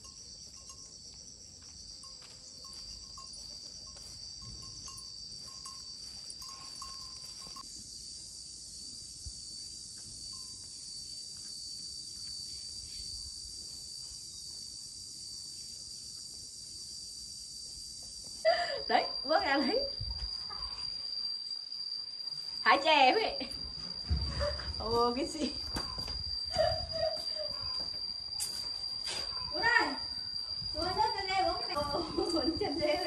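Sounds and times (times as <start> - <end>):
insect chorus: 0.0 - 33.0.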